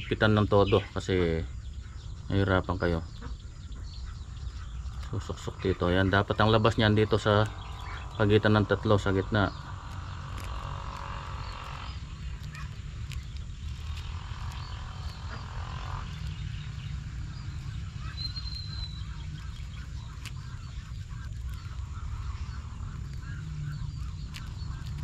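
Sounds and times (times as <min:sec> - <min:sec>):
birds calling: 0:00.0 - 0:25.0
steady low hum: 0:00.0 - 0:25.0.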